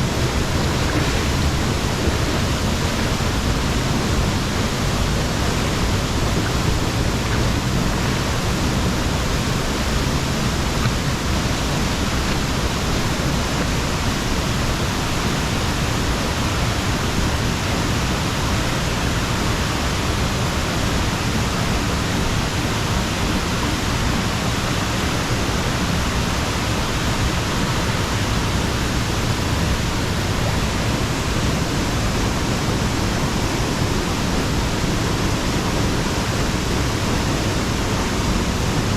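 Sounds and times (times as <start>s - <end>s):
rush of falling water: 0.0s - 38.9s.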